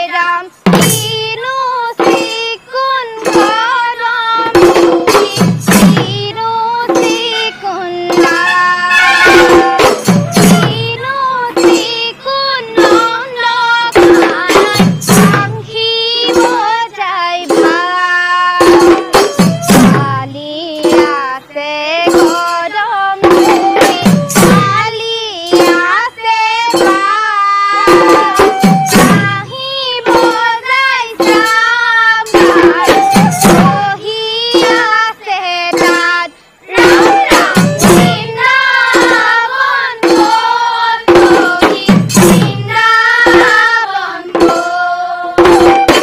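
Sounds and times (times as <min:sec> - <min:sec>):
group of women singing: 0:00.0 - 0:46.0
barrel drums beating: 0:00.7 - 0:01.4, 0:03.2 - 0:12.1, 0:12.7 - 0:16.8, 0:17.4 - 0:21.3, 0:23.2 - 0:35.1, 0:35.7 - 0:46.0.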